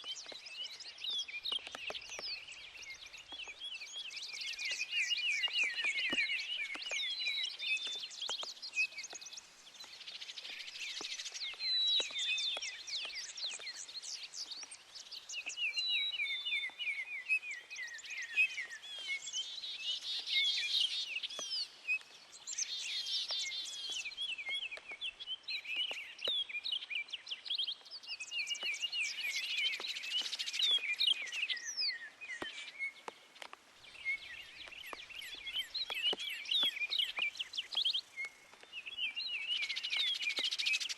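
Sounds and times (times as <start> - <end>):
chorus of birds singing: 0.0 - 40.9
faint rain patter: 0.0 - 40.9.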